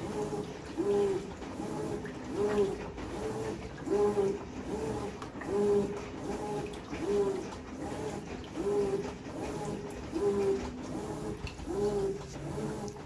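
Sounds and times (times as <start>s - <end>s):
washing machine motor hum: 0.0s - 13.0s
water and wet fabric sloshing: 0.0s - 13.0s.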